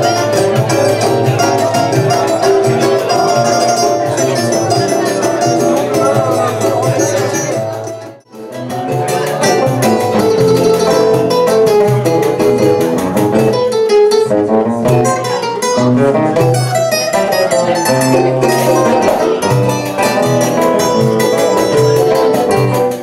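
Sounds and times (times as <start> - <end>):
banjo picking melody: 0.0 - 23.0
small guitar picking melody: 0.0 - 23.0.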